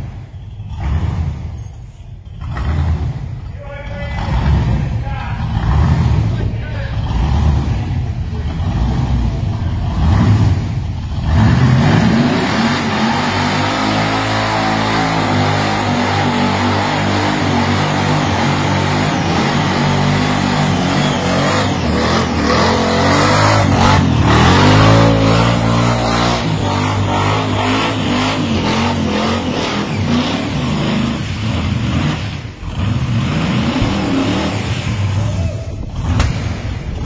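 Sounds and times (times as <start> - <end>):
car engine revving hard: 0.7 - 1.6, 2.4 - 37.0.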